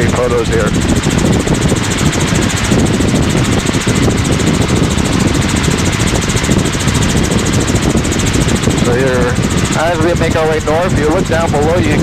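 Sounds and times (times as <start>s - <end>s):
helicopter engine and rotors: 0.0s - 12.0s.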